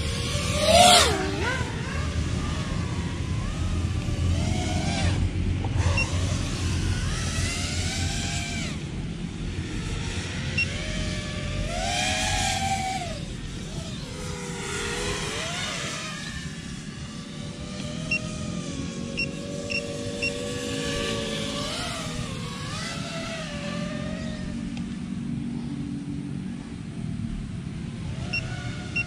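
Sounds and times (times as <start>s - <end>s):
drone motors whining: 0.0s - 25.8s, 27.4s - 29.0s.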